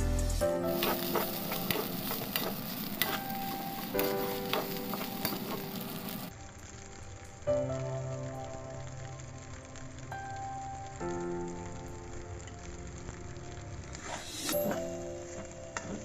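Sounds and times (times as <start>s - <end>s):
rice sizzling in a pan: 0.0s - 16.0s.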